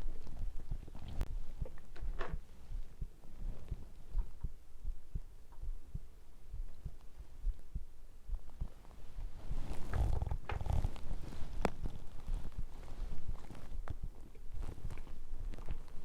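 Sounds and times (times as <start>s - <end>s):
heartbeat thumping: 0.0s - 16.0s
microphone rustling: 0.0s - 16.0s.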